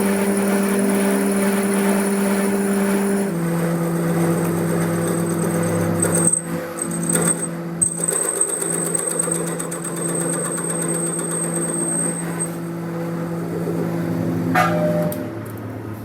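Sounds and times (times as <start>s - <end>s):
workshop machine humming and whining: 0.0s - 16.0s.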